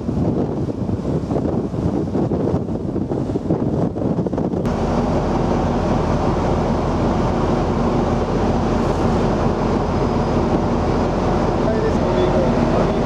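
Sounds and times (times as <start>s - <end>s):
boat engine hum: 0.0s - 13.0s
wind and water rushing: 0.0s - 13.0s.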